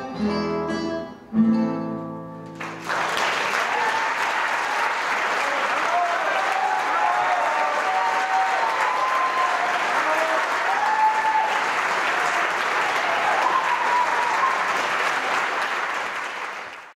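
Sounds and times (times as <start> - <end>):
audience applauding: 2.6 - 16.9
people cheering: 2.6 - 16.9.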